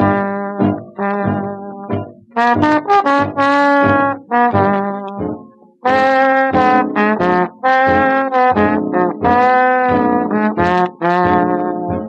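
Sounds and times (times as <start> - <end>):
brass music with trombones and trumpets: 0.0 - 12.0.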